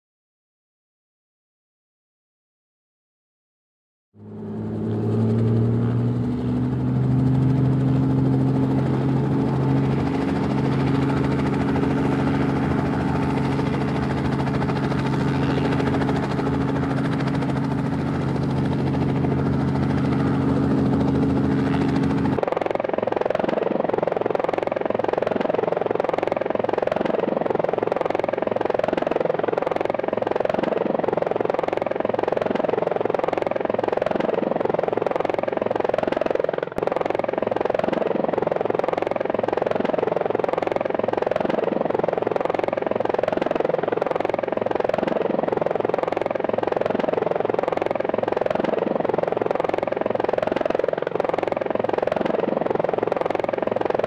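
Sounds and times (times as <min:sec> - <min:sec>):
drone propellers humming: 0:04.2 - 0:54.0.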